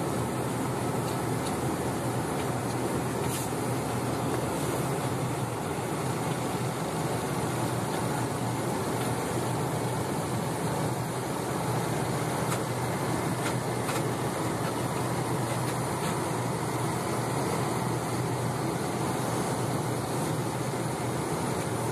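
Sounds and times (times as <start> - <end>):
car engine hum: 0.0 - 21.9
road and tyre rush: 0.0 - 21.9.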